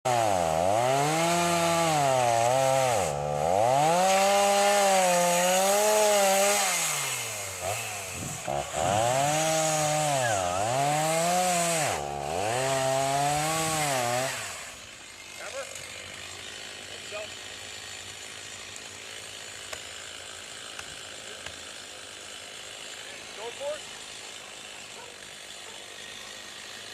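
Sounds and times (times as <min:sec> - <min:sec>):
chainsaw revving and cutting wood: 0:00.0 - 0:26.9.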